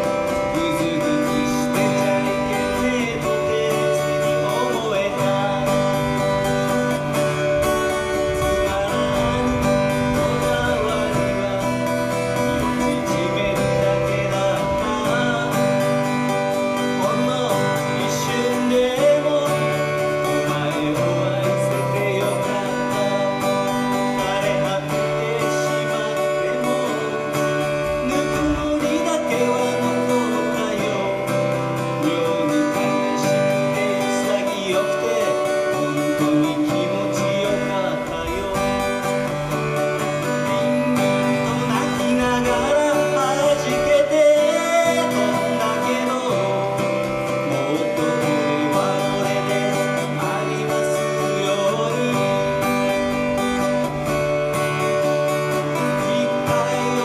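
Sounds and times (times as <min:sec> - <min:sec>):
live guitar music with singing: 0:00.0 - 0:57.0.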